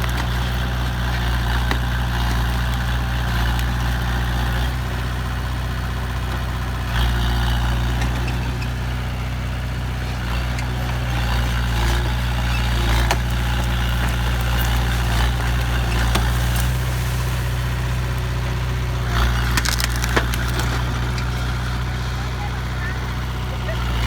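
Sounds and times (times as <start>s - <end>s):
heavy diesel engine idling: 0.0s - 24.0s.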